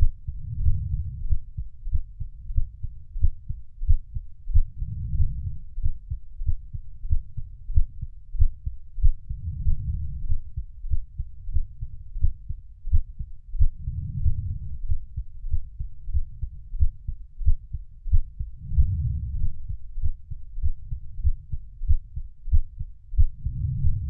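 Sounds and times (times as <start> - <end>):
heartbeat thumps: 0.0 - 24.0.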